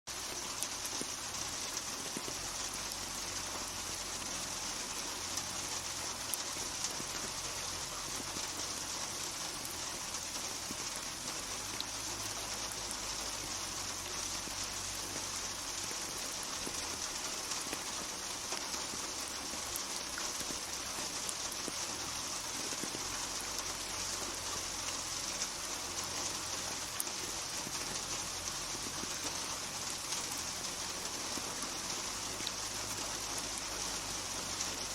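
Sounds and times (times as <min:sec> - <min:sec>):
rain hissing: 0:00.1 - 0:34.9
raindrops ticking on hard surfaces: 0:00.1 - 0:34.9.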